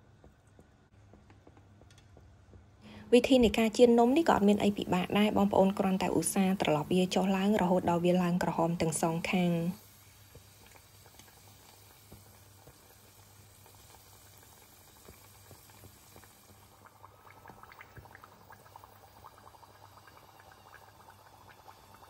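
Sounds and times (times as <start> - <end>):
oil sizzling and crackling: 3.4 - 22.0.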